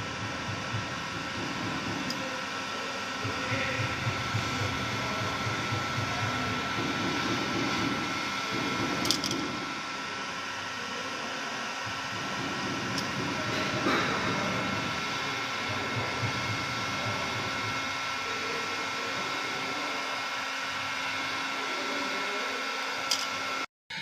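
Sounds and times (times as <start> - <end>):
heat gun blowing with a whine: 0.0 - 24.0.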